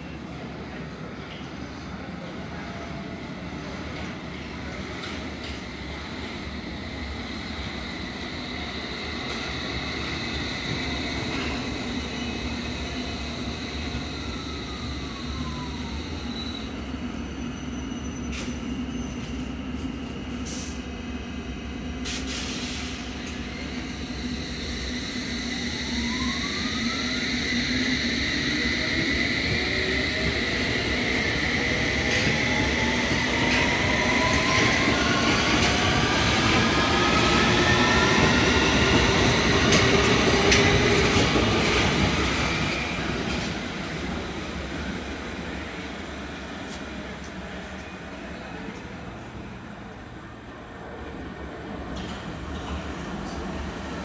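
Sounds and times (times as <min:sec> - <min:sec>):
train rumble: 0:03.6 - 0:54.0.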